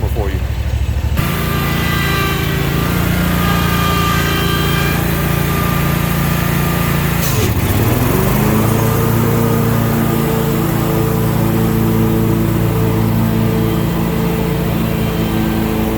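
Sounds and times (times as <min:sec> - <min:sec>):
lawn mower engine running: 0:00.0 - 0:15.9.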